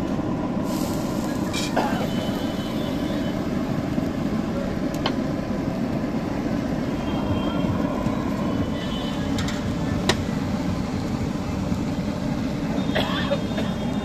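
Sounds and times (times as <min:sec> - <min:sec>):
street noise rumble: 0:00.0 - 0:14.0.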